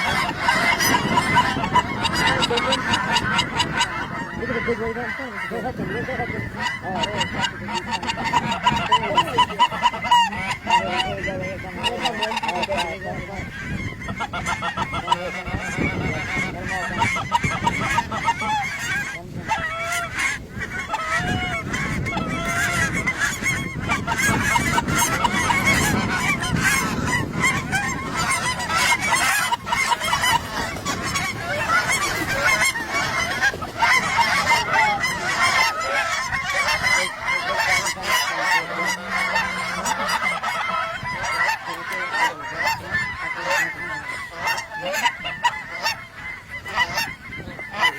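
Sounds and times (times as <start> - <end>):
flock of geese honking: 0.0 - 47.9.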